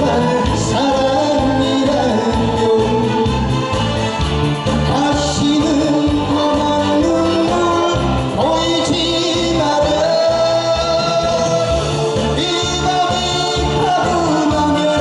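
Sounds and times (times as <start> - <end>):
man singing a ballad: 0.0 - 3.9, 4.6 - 15.0
backing track with low beat: 0.0 - 15.0.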